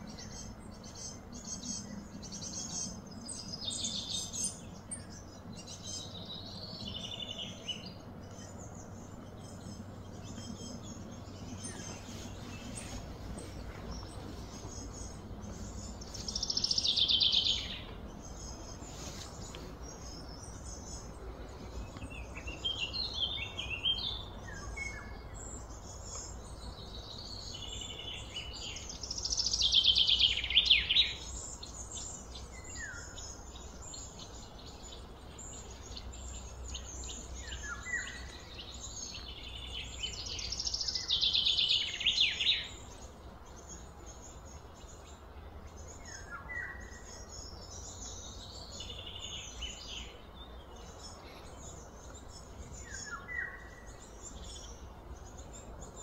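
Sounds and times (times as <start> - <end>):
low outdoor hum: 0.0 - 56.0
songbird singing: 0.0 - 56.0.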